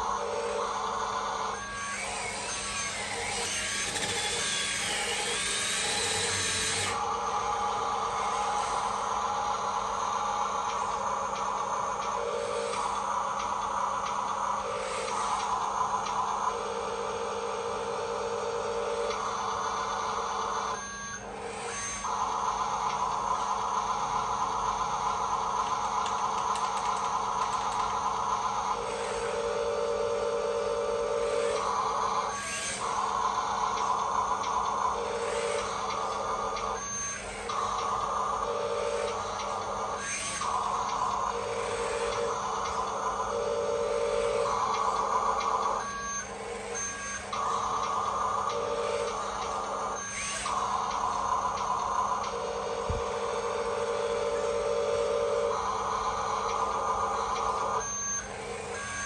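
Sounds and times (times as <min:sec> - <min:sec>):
steady running noise: 0:00.0 - 0:57.8
small electric motor whining: 0:00.0 - 0:59.0.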